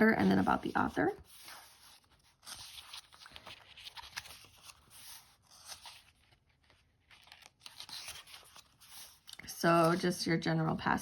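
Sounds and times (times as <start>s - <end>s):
pages turning: 0.0s - 11.0s.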